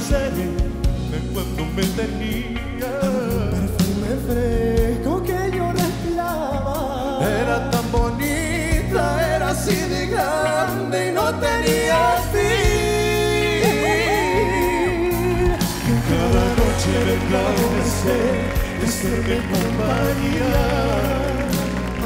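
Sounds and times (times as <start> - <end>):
band accompaniment: 0.0 - 22.0
men singing a ballad: 0.0 - 22.0.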